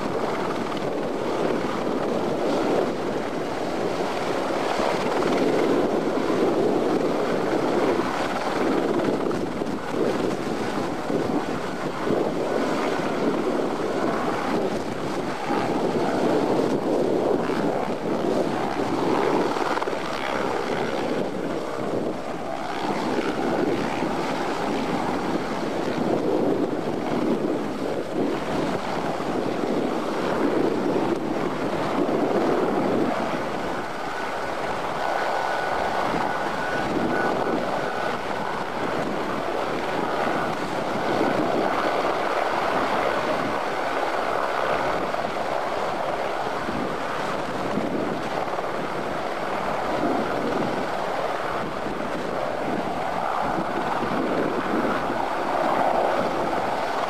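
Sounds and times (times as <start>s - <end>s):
helicopter hovering: 0.0s - 57.0s
wind buffeting microphone: 0.0s - 57.0s.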